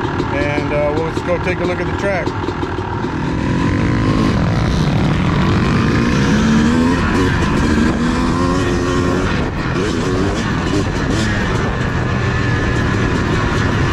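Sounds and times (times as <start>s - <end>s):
dirt bike engine revving: 0.0s - 13.9s.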